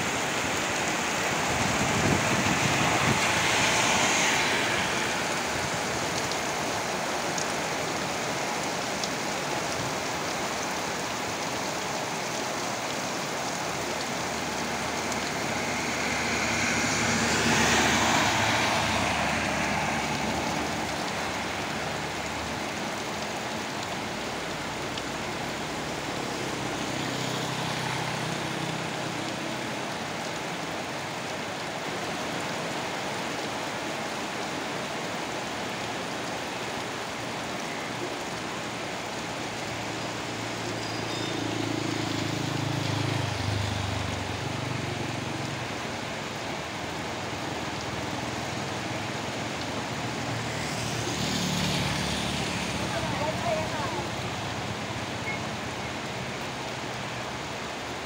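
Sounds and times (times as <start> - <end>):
heavy rain: 0.0 - 58.0
water pouring onto pavement: 0.0 - 58.0.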